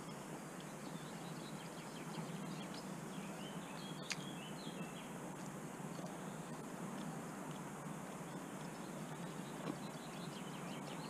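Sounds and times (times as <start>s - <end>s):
small birds chirping: 0.0s - 11.0s
steady hiss: 0.0s - 11.0s.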